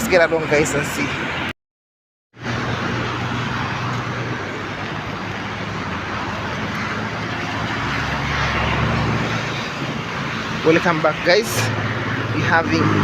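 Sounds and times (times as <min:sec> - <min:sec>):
vehicle engine humming: 0:02.4 - 0:13.0.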